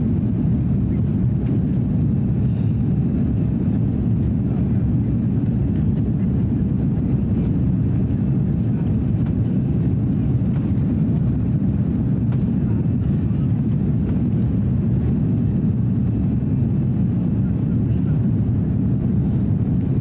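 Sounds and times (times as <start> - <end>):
airflow over fuselage: 0.0 - 20.0
airplane cabin engine rumble: 0.0 - 20.0.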